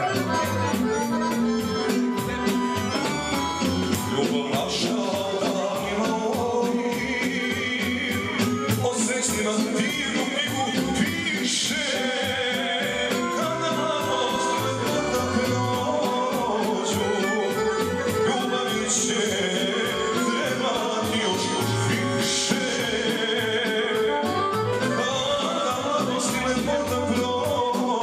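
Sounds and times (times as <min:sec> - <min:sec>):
accordion dance tune: 0:00.0 - 0:28.0
person singing: 0:00.0 - 0:28.0.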